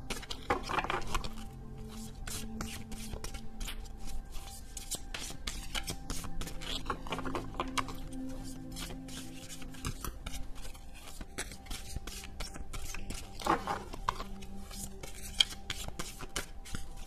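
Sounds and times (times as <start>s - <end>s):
background music with held notes: 0.0s - 17.0s
cards being shuffled: 0.0s - 17.0s.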